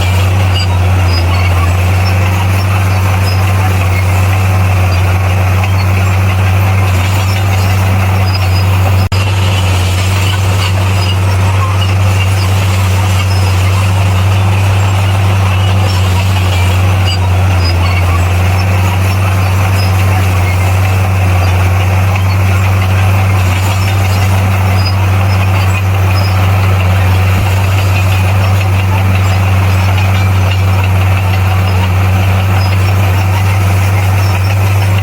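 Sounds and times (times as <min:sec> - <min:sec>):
bulldozer engine droning: 0:00.0 - 0:35.0.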